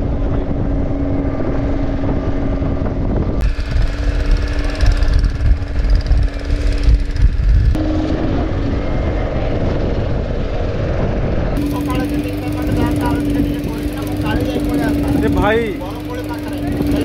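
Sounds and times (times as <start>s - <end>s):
motorboat engine droning: 0.0s - 17.0s
wind: 0.0s - 17.0s.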